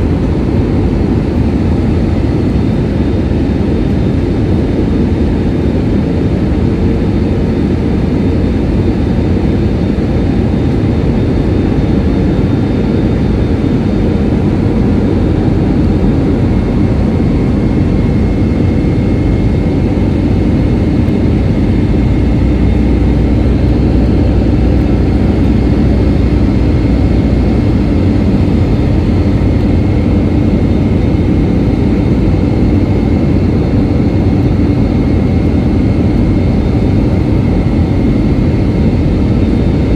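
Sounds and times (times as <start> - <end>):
jet cabin noise: 0.0 - 39.9.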